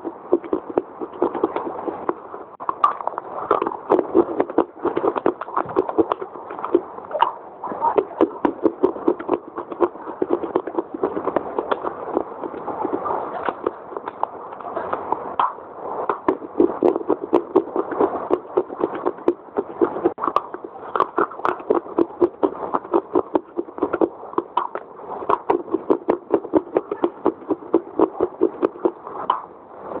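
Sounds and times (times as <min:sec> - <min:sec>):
crunchy chewing: 0:00.0 - 0:29.4.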